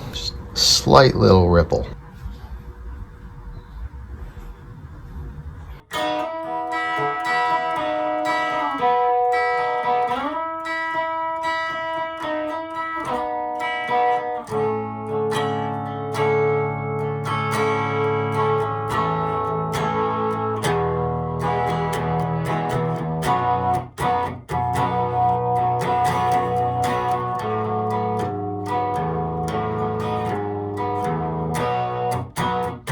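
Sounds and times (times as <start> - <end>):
guitar playing: 5.8 - 32.9.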